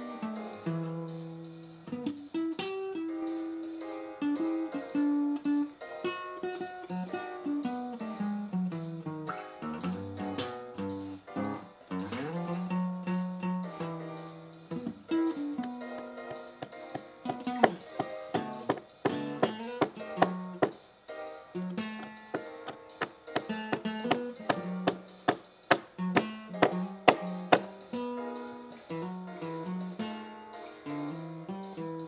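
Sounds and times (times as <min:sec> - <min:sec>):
plucked guitar music: 0:00.0 - 0:32.0.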